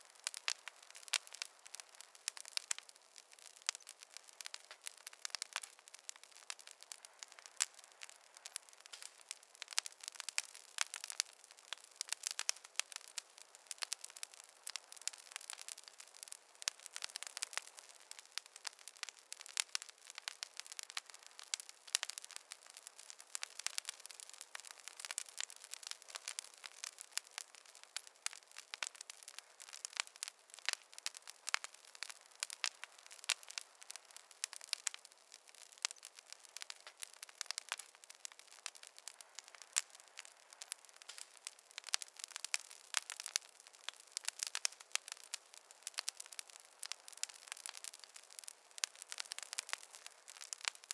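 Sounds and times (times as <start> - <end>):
campfire crackling and popping: 0.0 - 50.9.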